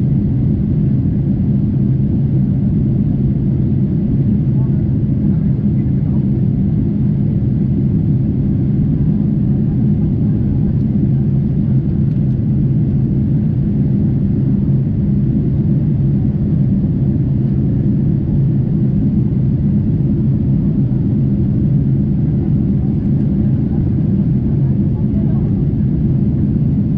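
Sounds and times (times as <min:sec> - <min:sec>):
aircraft cabin engine drone: 0:00.0 - 0:26.9
steady hum tones: 0:00.0 - 0:26.9.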